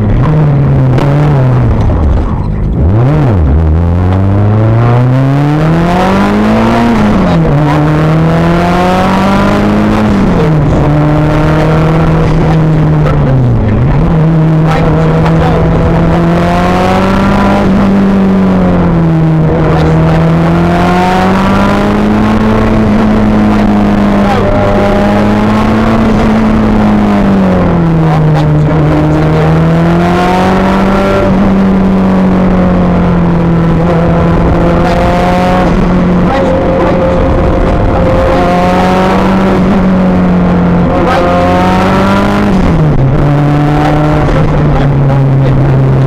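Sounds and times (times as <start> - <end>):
rally car engine under load: 0.0 - 46.0.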